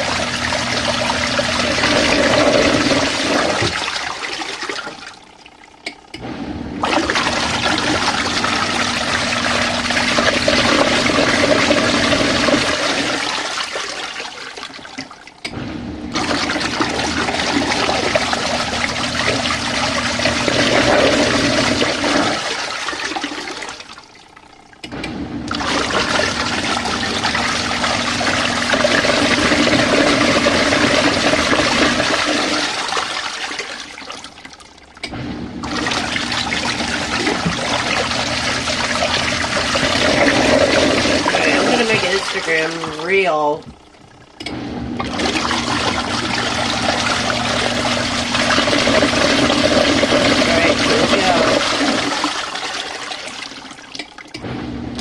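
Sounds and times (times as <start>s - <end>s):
washing machine motor hum: 0.0s - 55.0s
water churning in washer tub: 0.0s - 55.0s.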